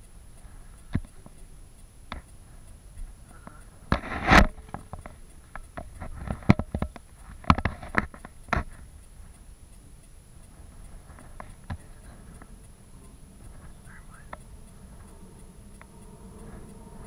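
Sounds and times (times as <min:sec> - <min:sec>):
sharp clicks and knocks: 0:00.0 - 0:17.0.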